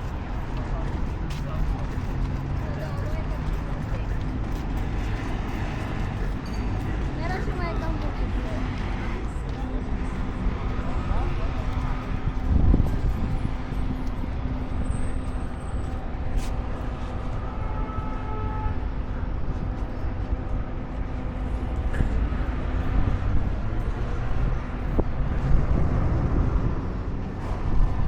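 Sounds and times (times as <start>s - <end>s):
vehicle engine rumble: 0.0s - 17.6s, 18.6s - 28.0s.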